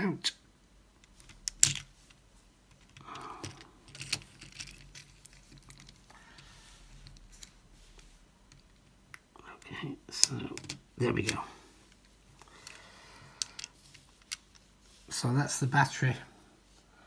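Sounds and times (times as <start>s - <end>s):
plastic parts clicking and scraping: 1.0s - 14.8s.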